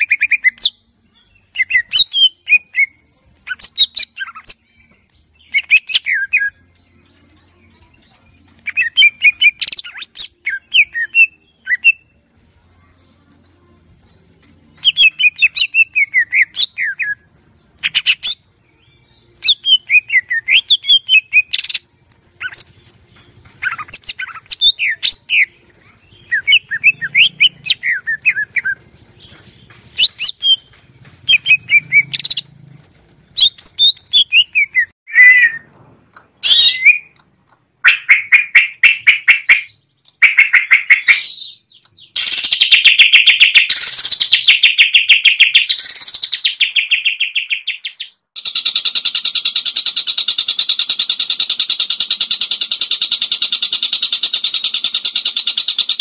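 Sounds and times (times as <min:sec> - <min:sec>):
bird singing chirps and trills: 0:00.0 - 0:32.5, 0:33.4 - 0:35.7, 0:36.3 - 0:56.0.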